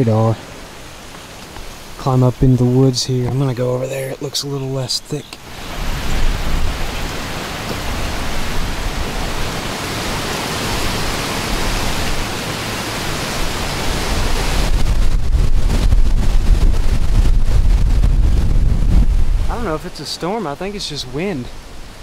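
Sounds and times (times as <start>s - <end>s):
wind buffeting microphone: 0.0s - 22.0s
gusty wind over water: 4.2s - 22.0s.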